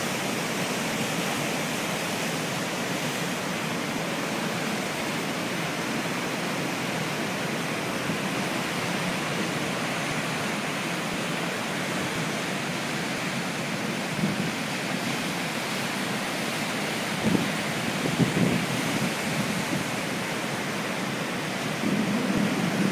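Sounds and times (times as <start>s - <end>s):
breaking surf on a beach: 0.0s - 22.9s.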